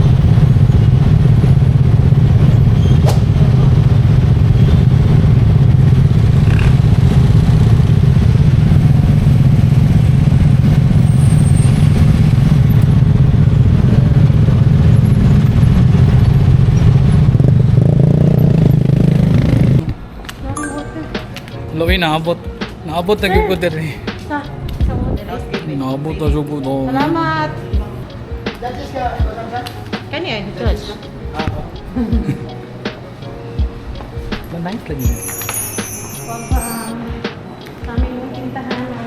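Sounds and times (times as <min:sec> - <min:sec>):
road noise: 0:00.0 - 0:39.0
road vehicle engine rumble: 0:00.0 - 0:39.0.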